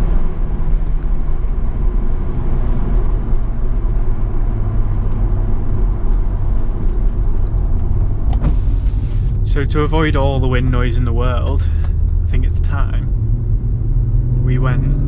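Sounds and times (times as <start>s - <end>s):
car exhaust drone: 0.0s - 15.0s
road noise: 0.0s - 15.0s.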